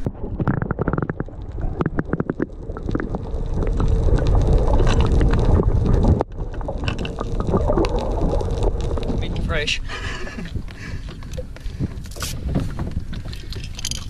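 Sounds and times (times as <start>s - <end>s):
low rumble: 0.0s - 13.3s
muffled underwater water rushing: 0.0s - 14.0s.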